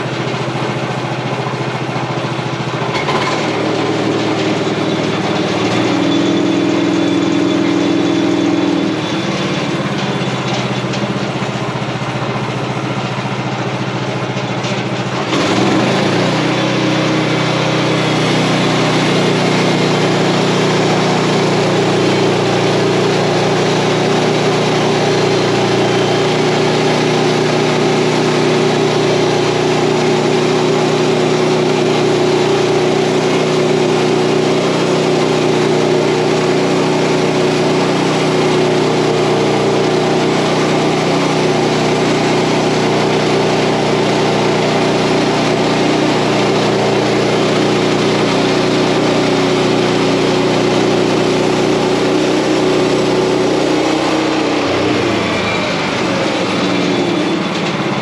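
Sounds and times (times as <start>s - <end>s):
bandsaw blade cutting log: 0.0s - 58.0s
sawmill gas engine running: 0.0s - 58.0s.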